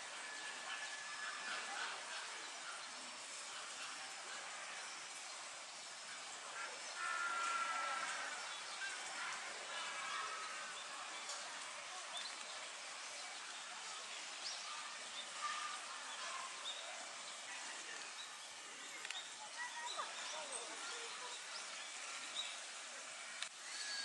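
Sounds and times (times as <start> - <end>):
distant people's voices: 0.0 - 24.0.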